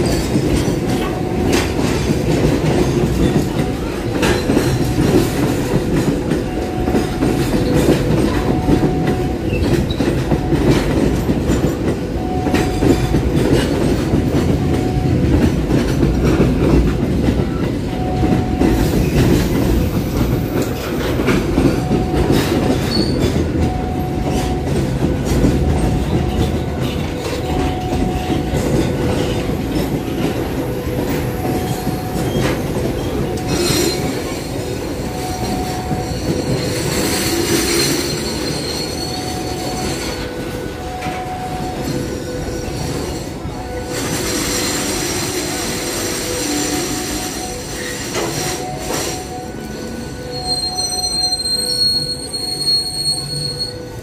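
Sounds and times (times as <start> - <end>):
clickety-clack over rail joints: 0.0 - 52.0
steel wheels rumbling on rails: 0.0 - 54.0.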